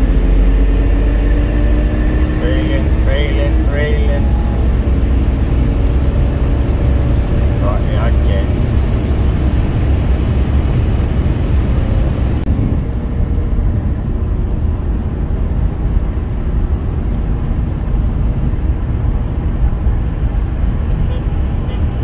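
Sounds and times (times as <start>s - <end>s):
car cruising drone: 0.0s - 22.0s.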